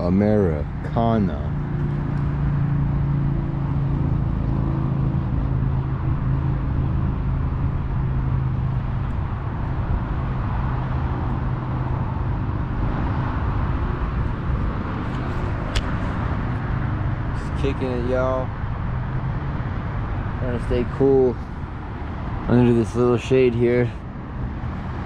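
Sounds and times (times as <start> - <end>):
distant traffic rumble: 0.0 - 25.0
engine hum: 0.0 - 25.0.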